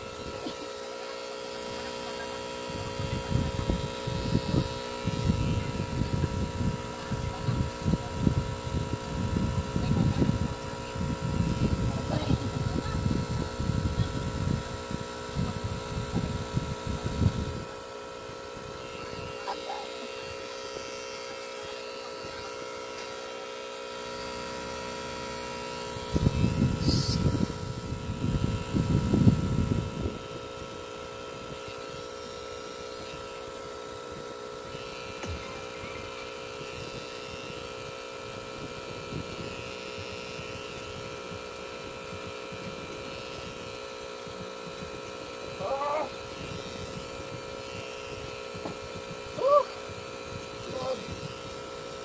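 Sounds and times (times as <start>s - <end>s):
tattoo machine humming: 0.0s - 52.0s.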